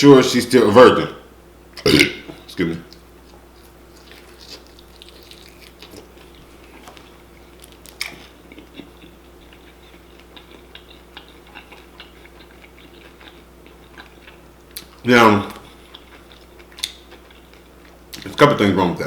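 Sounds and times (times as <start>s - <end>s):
faint steady hum: 0.0s - 19.0s
person chewing: 1.8s - 18.4s.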